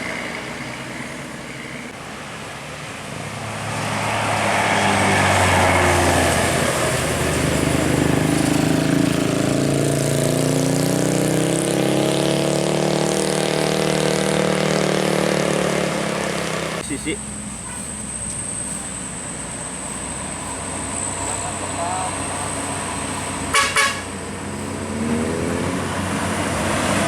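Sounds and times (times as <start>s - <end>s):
bus engine accelerating: 0.0s - 27.0s.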